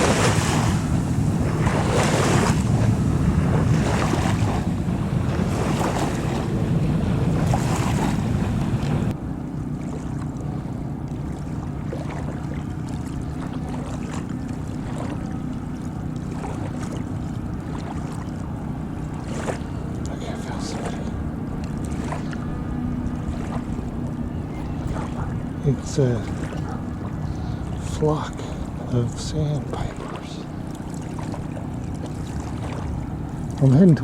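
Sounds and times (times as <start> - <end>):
lapping water: 0.0 - 9.1, 9.9 - 34.0
wind buffeting microphone: 0.0 - 34.0.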